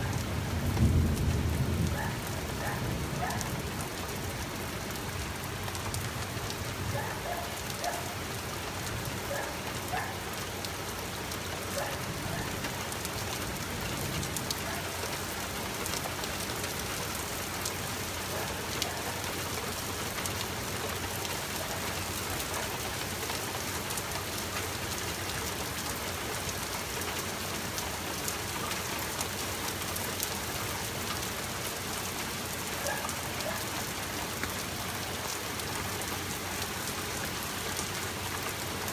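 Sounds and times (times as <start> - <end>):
steady rain hiss: 0.0 - 38.9
rain drop ticks: 0.1 - 3.9, 8.7 - 38.9.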